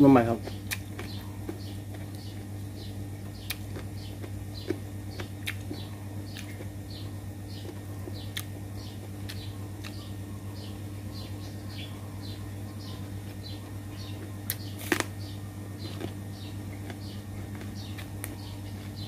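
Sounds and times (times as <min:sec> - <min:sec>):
steady low hum: 0:00.0 - 0:19.0
small bird chirping: 0:00.2 - 0:19.0.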